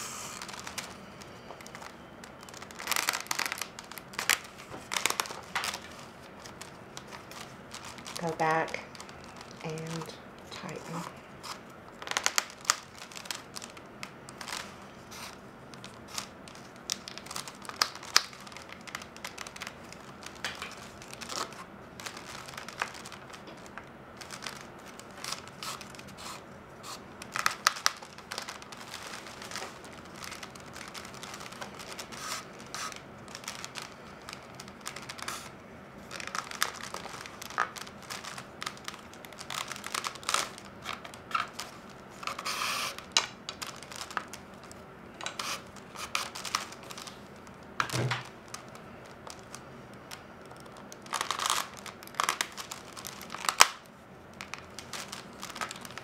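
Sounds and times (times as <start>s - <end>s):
reed rustling and crinkling: 0.3s - 53.6s, 54.2s - 56.0s.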